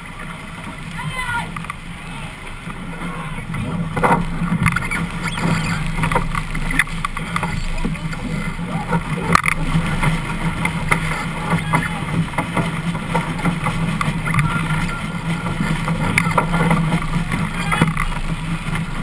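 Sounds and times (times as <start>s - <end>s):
water rushing along hull: 0.0s - 19.0s
boat rigging knocks and clicks: 3.5s - 19.0s.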